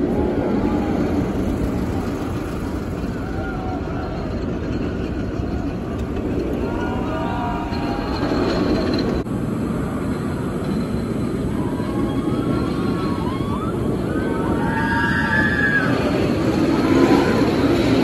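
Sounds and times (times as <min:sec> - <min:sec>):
roller coaster rumbling on track: 0:00.0 - 0:18.0.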